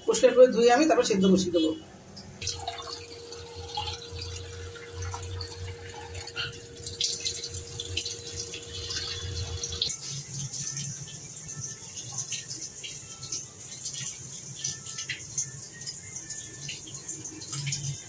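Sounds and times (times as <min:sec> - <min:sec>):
faint steady hum: 0:01.7 - 0:18.0.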